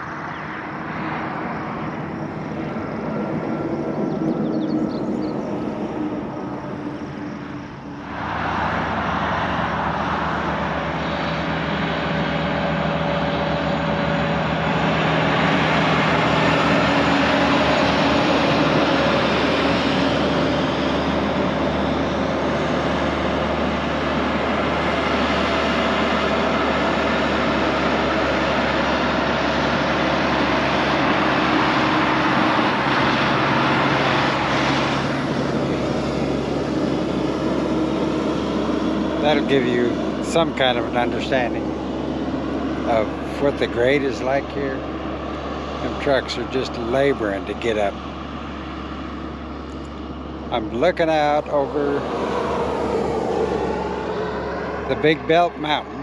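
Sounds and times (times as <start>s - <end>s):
truck diesel engine labouring: 0.0s - 56.0s.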